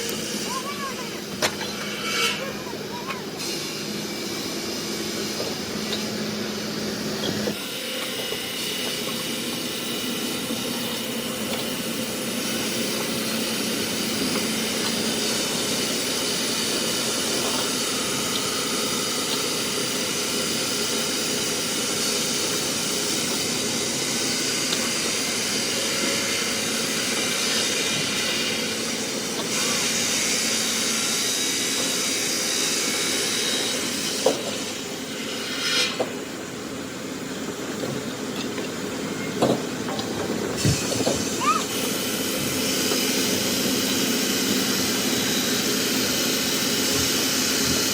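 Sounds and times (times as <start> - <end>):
heavy machinery running: 0.0 - 47.9.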